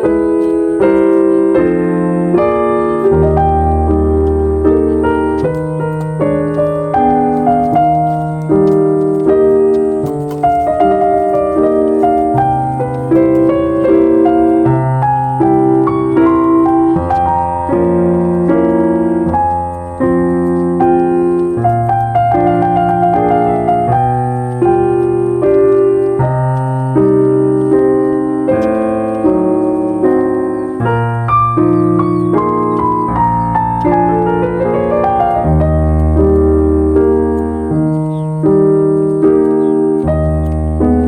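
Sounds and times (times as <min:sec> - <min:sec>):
calm solo piano piece: 0:00.0 - 0:41.0.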